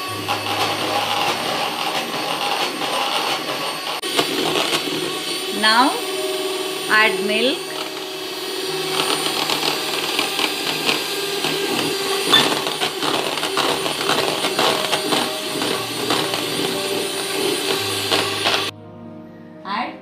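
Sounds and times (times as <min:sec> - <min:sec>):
electric hand mixer running: 0:00.0 - 0:18.7.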